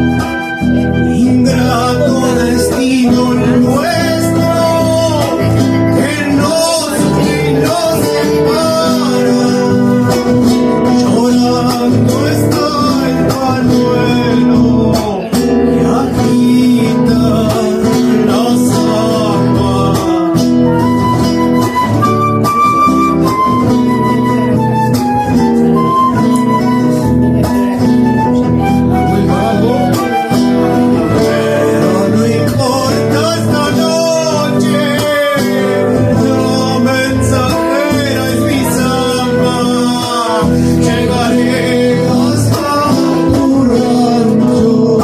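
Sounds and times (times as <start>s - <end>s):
flute melody: 0.0s - 45.0s
guitars playing: 0.0s - 45.0s
person singing: 0.0s - 45.0s.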